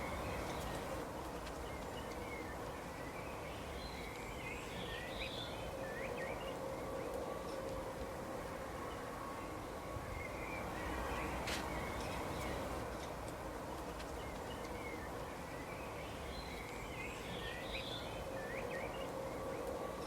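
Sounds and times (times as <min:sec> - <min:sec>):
outdoor background noise: 0:00.0 - 0:20.0
songbirds chirping: 0:00.0 - 0:20.0.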